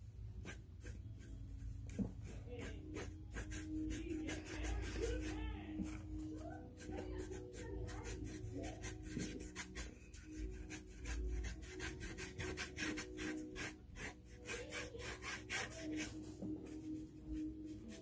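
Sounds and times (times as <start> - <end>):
paintbrush scrubbing board: 0.4 - 18.0.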